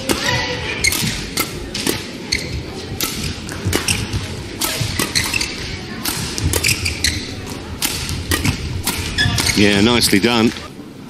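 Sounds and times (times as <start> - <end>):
racket striking shuttlecock: 0.0 - 9.6
large hall noise: 0.0 - 11.0.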